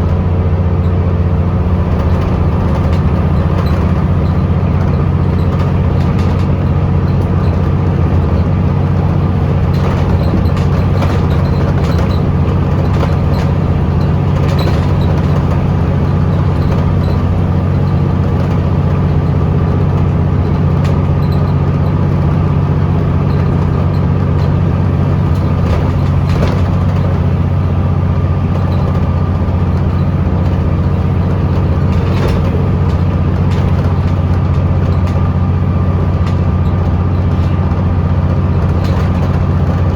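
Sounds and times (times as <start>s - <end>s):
bus diesel engine drone: 0.0s - 39.9s
light clicks and rattles: 1.6s - 39.9s.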